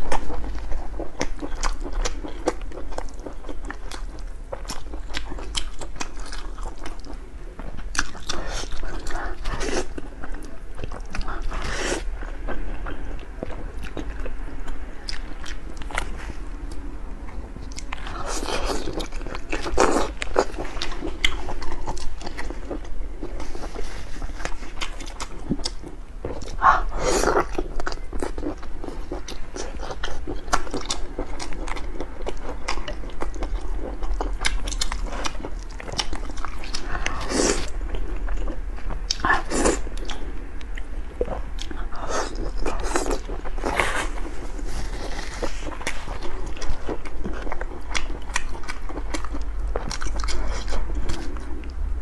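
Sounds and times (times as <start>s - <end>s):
wet chewing: 7.8s - 51.8s.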